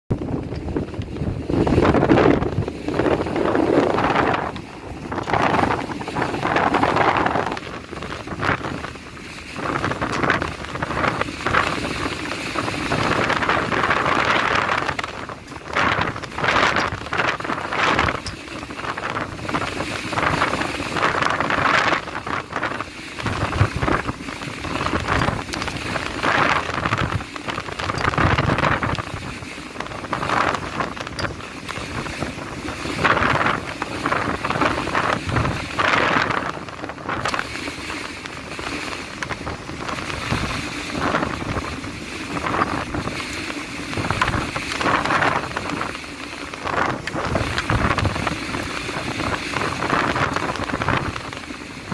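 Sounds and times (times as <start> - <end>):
gale wind buffeting microphone: 0.0 - 51.9.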